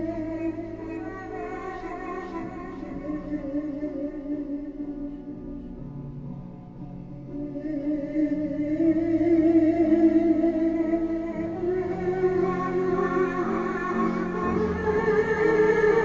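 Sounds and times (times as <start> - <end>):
person singing with vibrato: 0.0 - 5.4, 7.3 - 16.0
instrumental backing music: 0.0 - 16.0.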